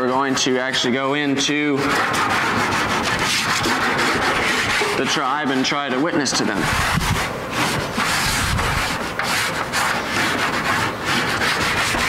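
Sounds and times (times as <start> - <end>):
chalk scraping on a board: 0.0 - 12.0.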